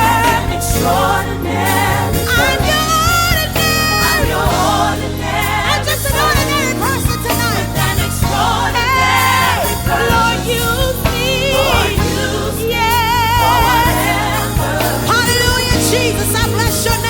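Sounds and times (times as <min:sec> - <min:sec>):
instrumental backing: 0:00.0 - 0:17.0.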